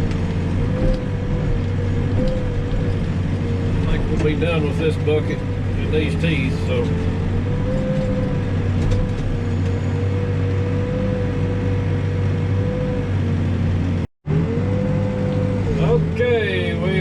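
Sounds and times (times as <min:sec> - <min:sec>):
steady whine: 0:00.0 - 0:14.0
diesel engine running: 0:00.0 - 0:17.0.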